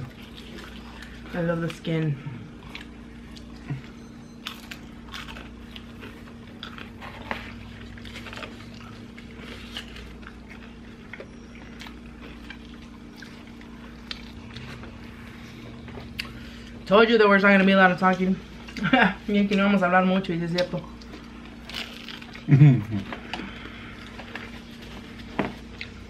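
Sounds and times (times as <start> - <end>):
chewing and biting: 0.0 - 16.9, 20.5 - 26.0
steady low hum: 0.0 - 26.0.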